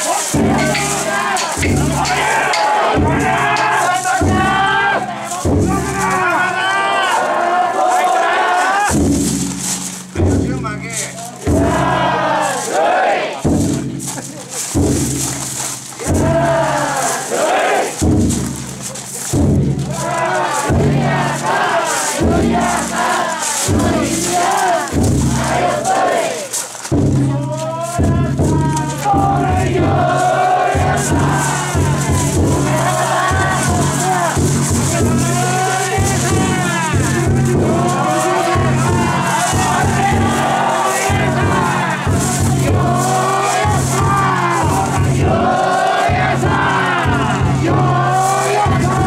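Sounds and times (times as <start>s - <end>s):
crowd chanting and shouting: 0.0s - 49.0s
deep drum beats: 0.0s - 49.0s.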